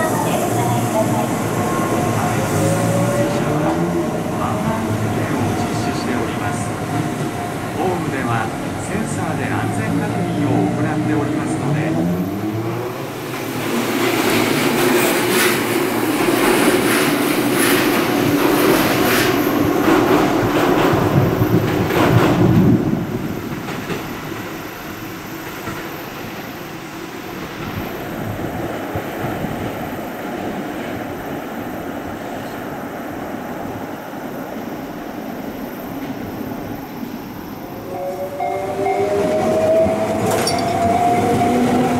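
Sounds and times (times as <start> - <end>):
rail rumble: 0.0 - 41.9
train running hum: 0.0 - 41.9.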